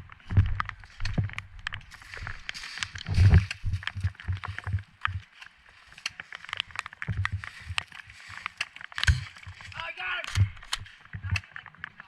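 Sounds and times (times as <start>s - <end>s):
gear clicking and rattling: 0.2s - 12.0s.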